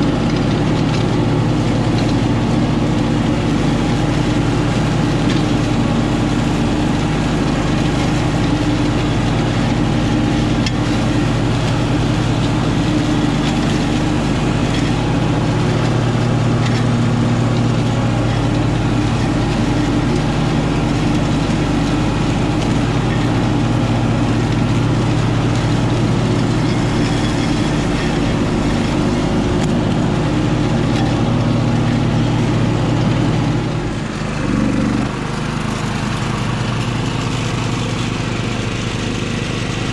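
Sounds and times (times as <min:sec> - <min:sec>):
mower deck cutting grass: 0:00.0 - 0:39.9
riding mower engine running: 0:00.0 - 0:39.9.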